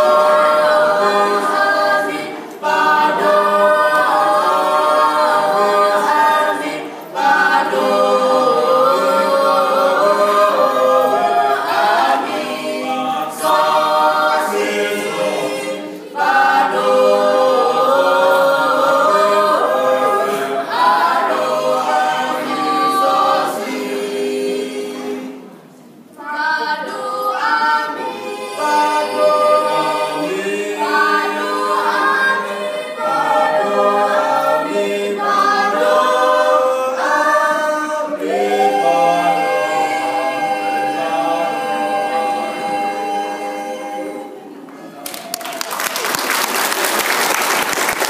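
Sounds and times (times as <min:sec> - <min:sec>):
vocal quartet singing a cappella: 0:00.0 - 0:44.9.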